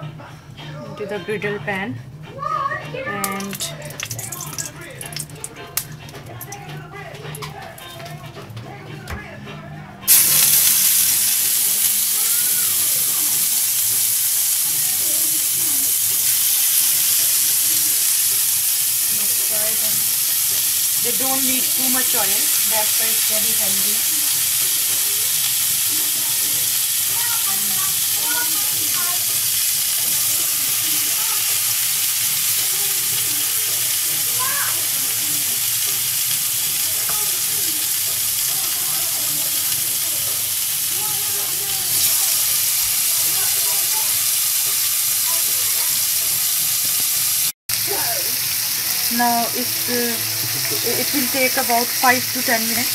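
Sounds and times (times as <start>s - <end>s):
fish sizzling in oil: 3.0s - 8.1s, 10.1s - 52.9s.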